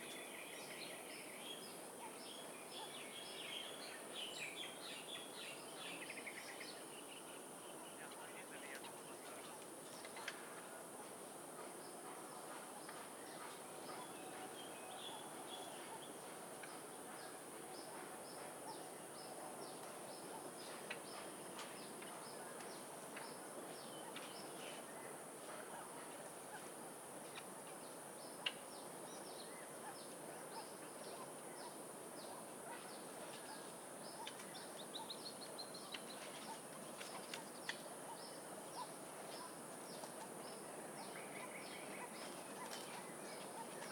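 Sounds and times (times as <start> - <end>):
caged birds chirping: 0.0 - 11.2, 11.8 - 43.9.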